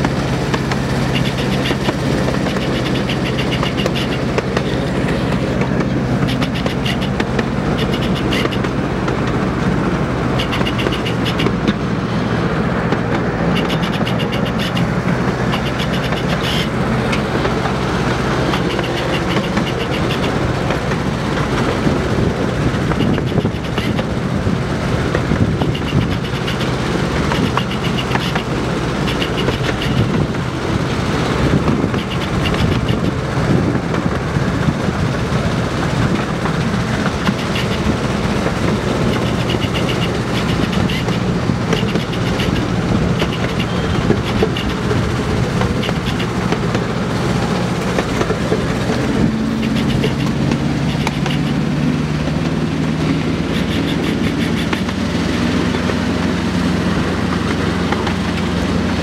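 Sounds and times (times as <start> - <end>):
miniature train wheels rumbling: 0.0 - 59.0
wheel clicks on rail: 0.0 - 59.0.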